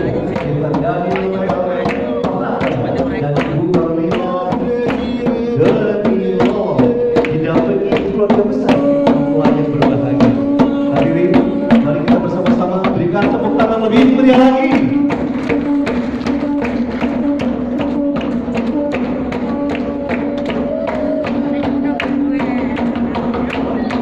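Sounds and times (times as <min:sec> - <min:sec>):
hand drums beaten quickly: 0:00.0 - 0:24.0
voices singing: 0:00.0 - 0:24.0.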